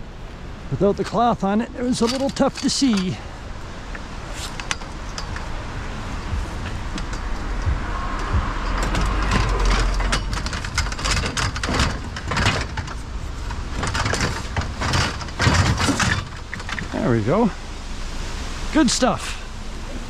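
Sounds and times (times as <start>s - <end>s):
vehicle passing rumble: 0.0s - 20.0s
metal umbrella frame rattling: 1.2s - 17.5s.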